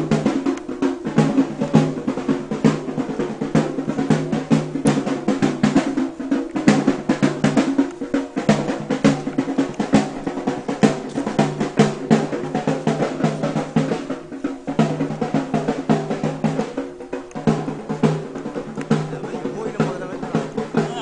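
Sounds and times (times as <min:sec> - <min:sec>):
drums in fast rolling rhythm: 0:00.0 - 0:21.0.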